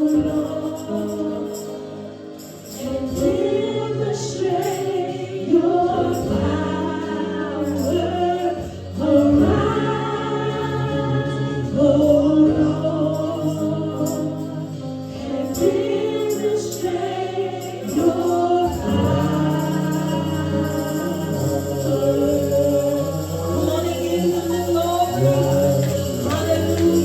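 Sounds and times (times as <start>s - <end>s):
voices singing together: 0.0s - 27.0s.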